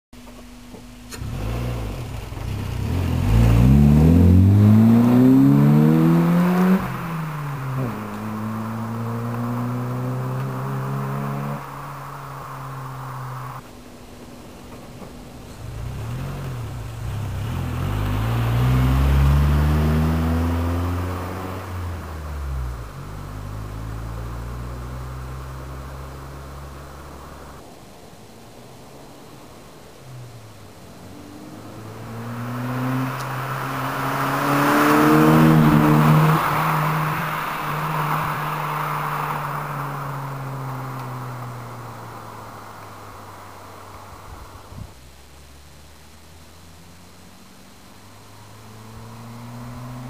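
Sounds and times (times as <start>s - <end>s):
car engine accelerating: 0.2s - 27.6s, 29.5s - 50.0s.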